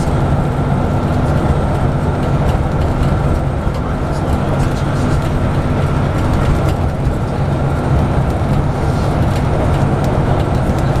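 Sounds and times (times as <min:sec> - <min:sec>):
bus diesel engine droning: 0:00.0 - 0:11.0
faint rattles and ticks: 0:00.0 - 0:11.0
road noise: 0:00.0 - 0:11.0.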